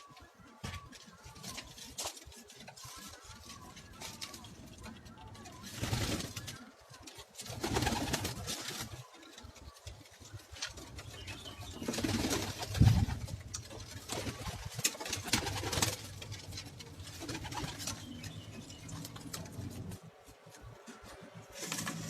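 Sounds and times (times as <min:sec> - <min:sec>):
pigeons cooing: 0:00.0 - 0:22.0
wings rustling and flapping: 0:00.0 - 0:22.0.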